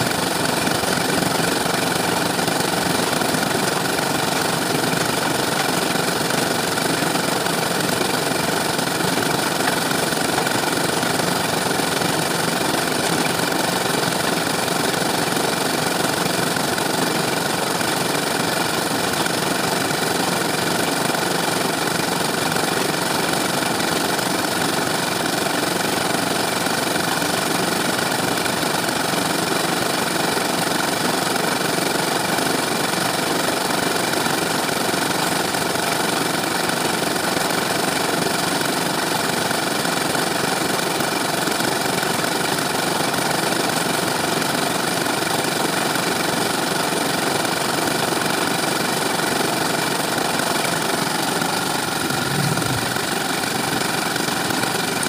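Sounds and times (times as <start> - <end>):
concrete mixer engine running: 0.0 - 55.0.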